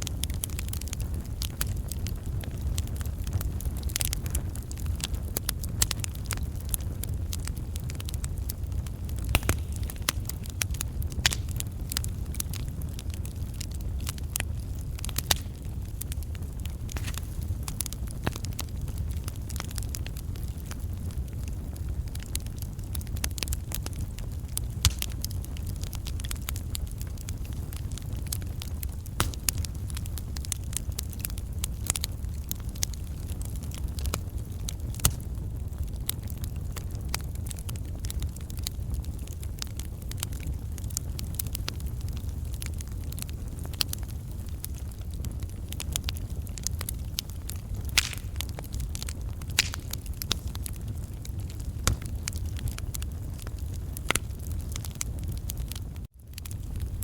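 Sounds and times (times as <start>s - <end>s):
campfire crackling: 0.0s - 57.0s
low rumble of fire: 0.0s - 57.0s.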